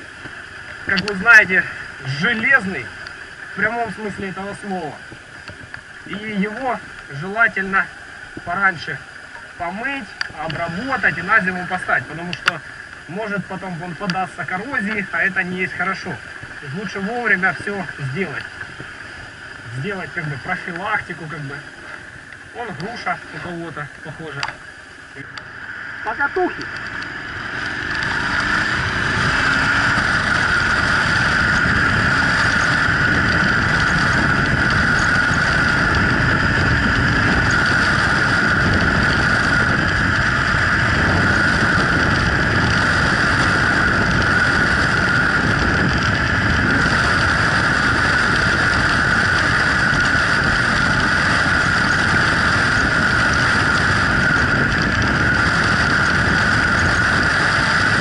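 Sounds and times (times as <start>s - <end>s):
motorcycle engine and tyres: 0.0s - 58.0s
wind rushing over camera: 0.0s - 58.0s.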